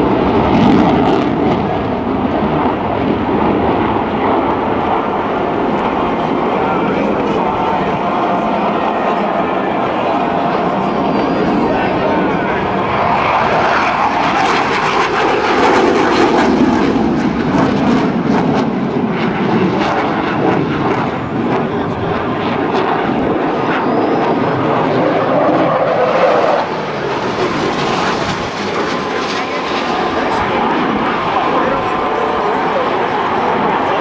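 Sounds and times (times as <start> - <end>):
jet flying overhead: 0.0 - 34.0.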